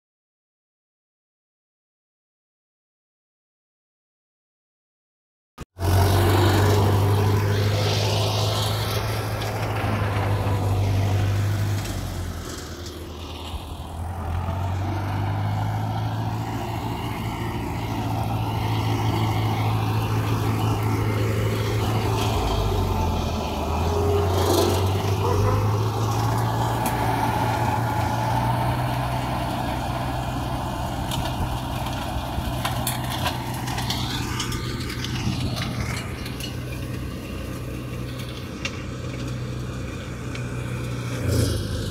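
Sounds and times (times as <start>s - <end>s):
tractor diesel engine running: 5.8s - 41.9s.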